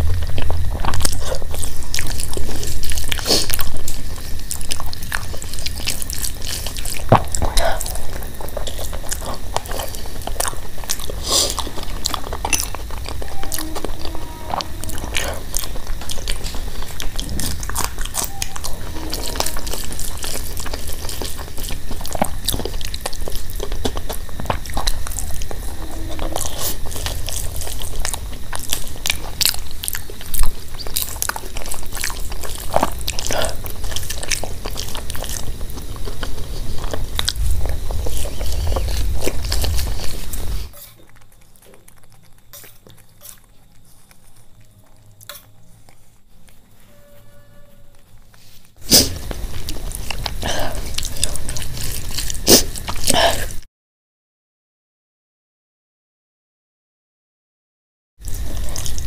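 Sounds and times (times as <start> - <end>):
mouth chewing: 0.0 - 46.8, 48.2 - 53.6, 58.2 - 59.0.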